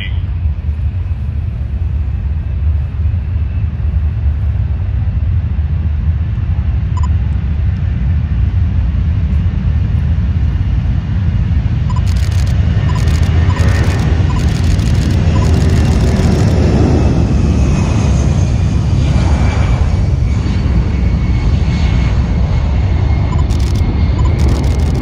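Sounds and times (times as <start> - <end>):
distant jet engines rumbling: 0.0 - 25.0.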